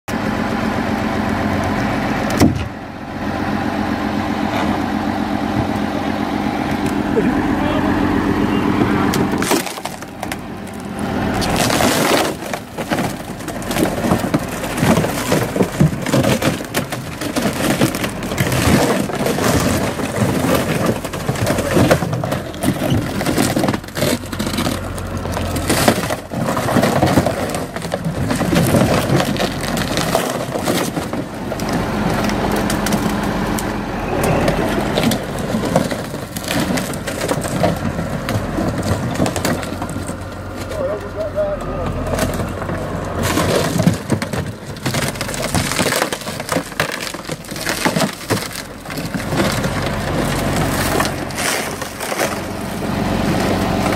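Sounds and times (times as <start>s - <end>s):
diesel tractor engine running: 0.0s - 53.9s
boat hull cracking and crunching: 8.3s - 53.9s.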